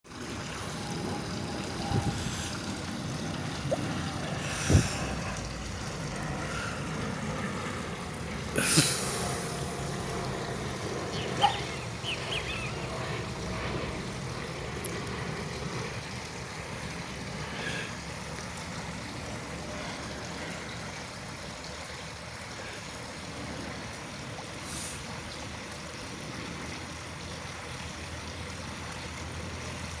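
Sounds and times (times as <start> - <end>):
airplane rumble and hiss: 0.1 - 30.0.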